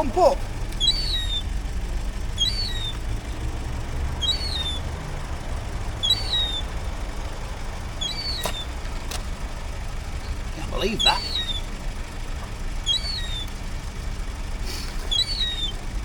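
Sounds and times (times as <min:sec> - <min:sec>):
small bird chirping: 0:00.0 - 0:15.9
steady low rumble: 0:00.0 - 0:16.0.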